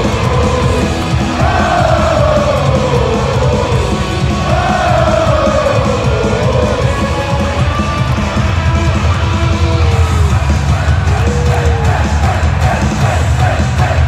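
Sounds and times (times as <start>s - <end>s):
crowd yelling and cheering: 0.0s - 14.0s
rock music over loudspeakers: 0.0s - 14.0s.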